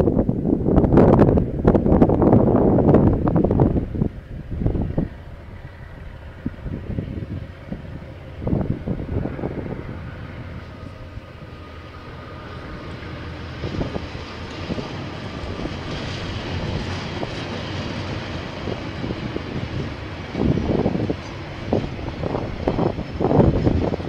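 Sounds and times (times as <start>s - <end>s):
train rumbling past: 0.0s - 24.0s
wind buffeting microphone: 0.0s - 24.0s.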